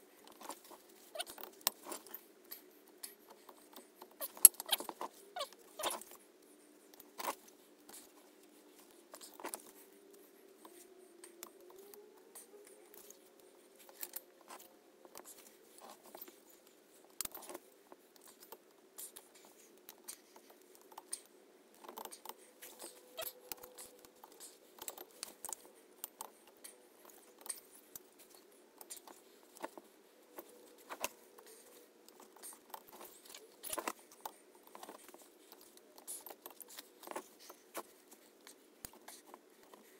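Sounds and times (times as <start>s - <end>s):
light metal clicks and scrapes: 0.0s - 39.9s.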